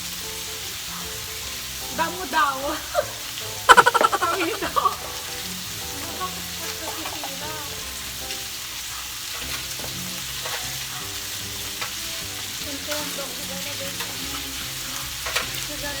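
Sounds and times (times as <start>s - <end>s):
meat sizzling on a grill: 0.0s - 16.0s.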